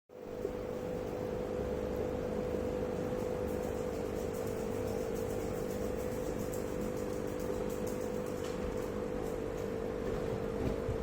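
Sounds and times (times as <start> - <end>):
aquarium equipment humming: 0.1 - 11.0.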